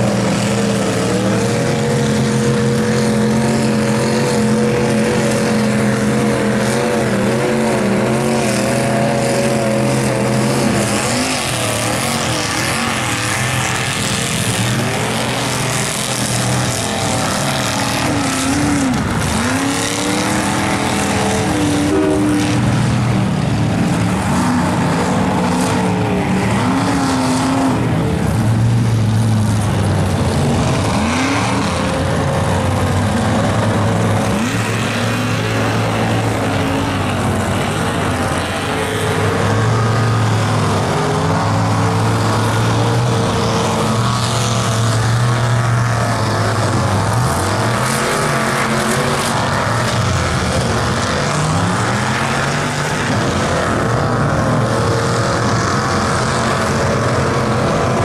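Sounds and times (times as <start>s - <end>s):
tires churning through mud: 0.0s - 58.0s
truck engines revving: 0.0s - 58.0s.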